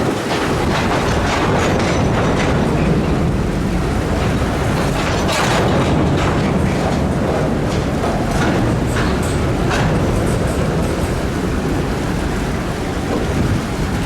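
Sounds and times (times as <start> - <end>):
train wheels rumbling on rail: 0.0 - 14.0
wheels clicking over rail joints: 0.0 - 14.0.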